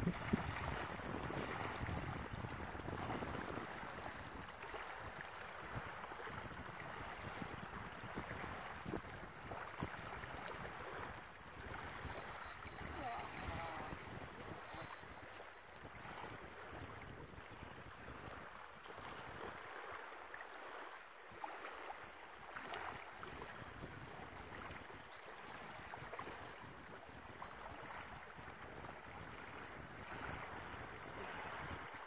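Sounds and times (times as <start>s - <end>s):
wind on microphone: 0.0s - 19.6s, 22.8s - 32.0s
small waves lapping: 0.0s - 32.0s.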